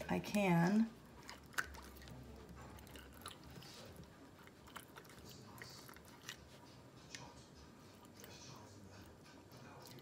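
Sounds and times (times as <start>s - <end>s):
soft squishing of fish: 0.0s - 10.0s.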